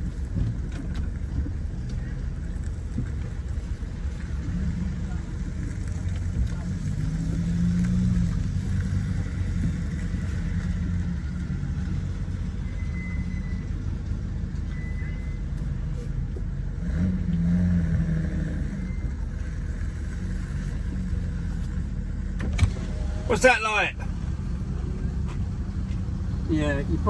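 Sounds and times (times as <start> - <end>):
car engine running at low speed: 0.0 - 27.0.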